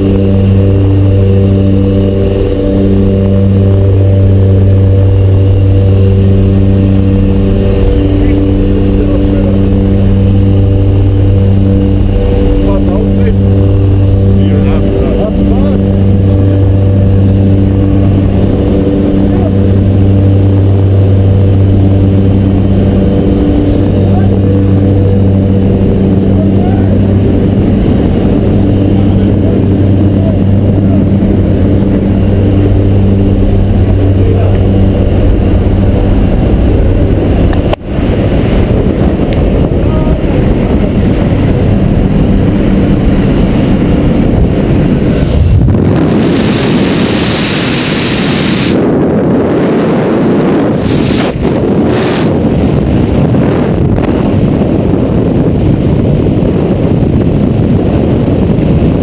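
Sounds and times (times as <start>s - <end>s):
rushing wind roar: 0.0s - 59.0s
turboprop engines droning: 0.0s - 59.0s.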